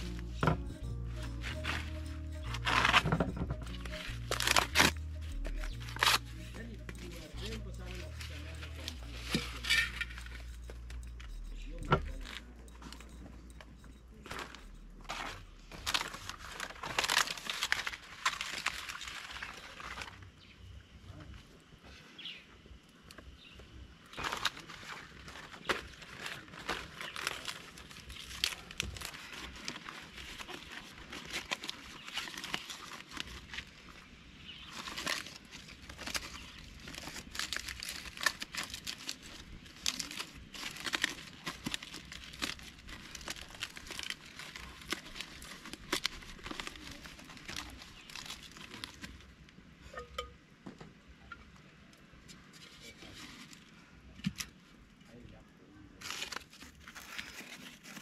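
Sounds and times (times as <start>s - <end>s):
leaves rustling and crinkling: 1.3s - 10.5s, 14.3s - 21.6s, 24.0s - 50.3s, 52.3s - 58.0s.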